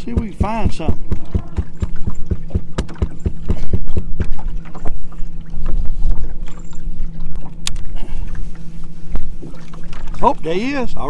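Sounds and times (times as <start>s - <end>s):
knocks and slaps from boat: 0.0s - 10.5s.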